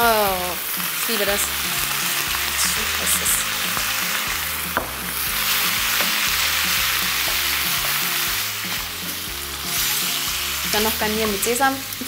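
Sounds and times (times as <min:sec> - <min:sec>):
background music: 0:00.0 - 0:12.0
food sizzling in a frying pan: 0:00.0 - 0:12.0.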